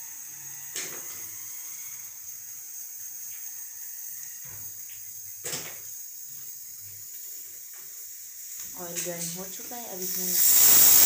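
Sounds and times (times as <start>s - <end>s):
stove burner hissing: 0.0s - 11.0s.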